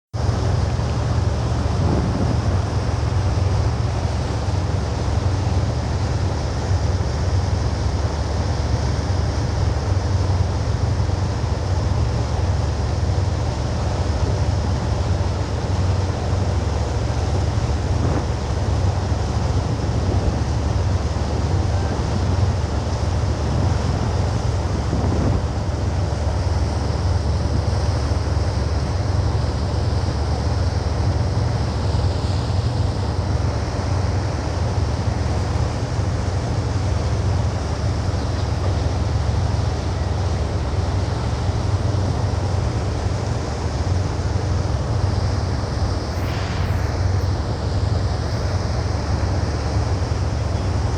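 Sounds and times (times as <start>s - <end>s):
wind buffeting microphone: 0.2s - 7.0s, 16.3s - 50.9s
motor boat engine drone: 0.2s - 50.9s
water rushing past hull: 0.2s - 50.9s.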